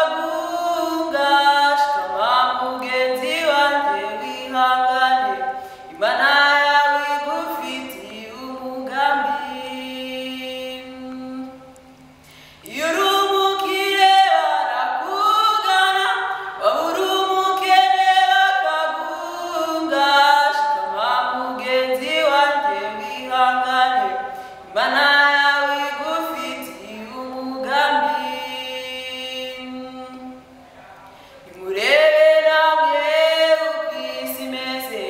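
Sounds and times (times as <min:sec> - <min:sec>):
person singing unaccompanied: 0:00.0 - 0:30.8, 0:31.4 - 0:35.0.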